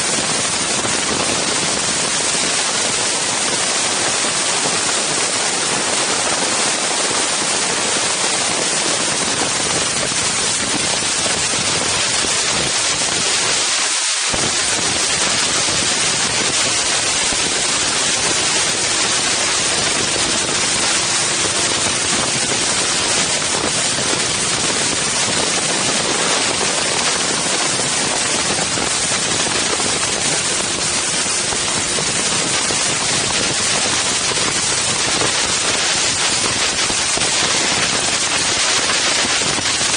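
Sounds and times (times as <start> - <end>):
wind rushing over microphones: 0.0 - 39.9.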